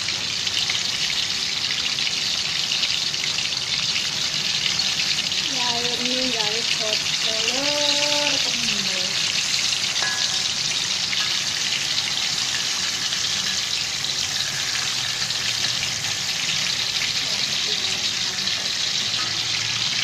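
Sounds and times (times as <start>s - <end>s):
food deep-frying in sizzling oil: 0.0s - 20.0s.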